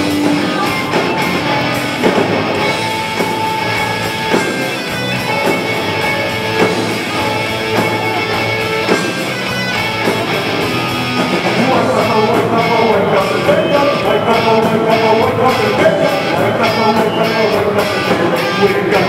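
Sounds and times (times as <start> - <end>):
distorted electric guitars: 0.0 - 19.0
drum kit: 0.0 - 19.0.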